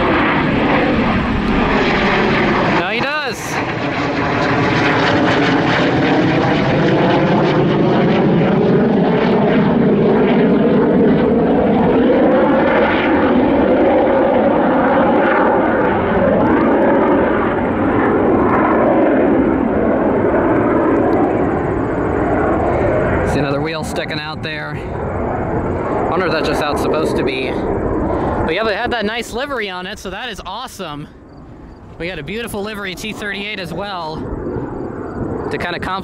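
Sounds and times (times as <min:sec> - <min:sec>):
jet passing low: 0:00.0 - 0:36.0.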